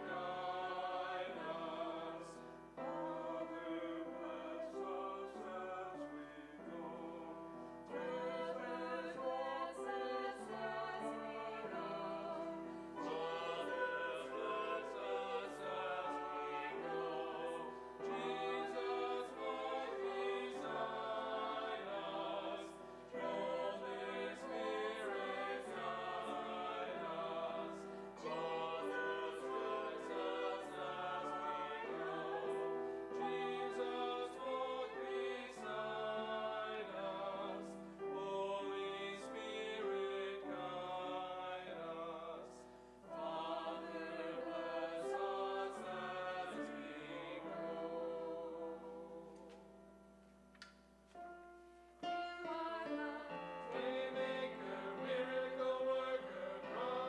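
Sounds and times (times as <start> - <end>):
choir singing sacred music: 0.0 - 57.0.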